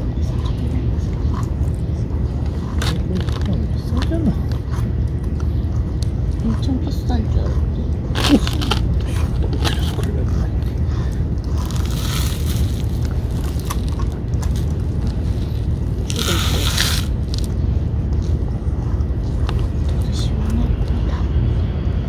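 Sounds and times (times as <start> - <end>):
cats chewing and licking: 0.0 - 21.8
steady low rumble: 0.0 - 22.0.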